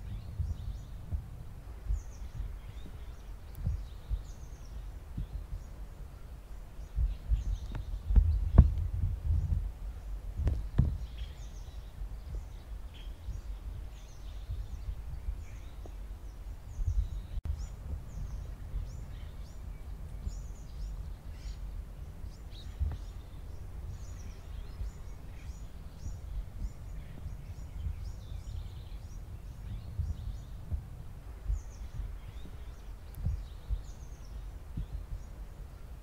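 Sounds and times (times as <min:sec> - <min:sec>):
low steady rumble: 0:00.0 - 0:36.0
small birds chirping: 0:00.0 - 0:36.0.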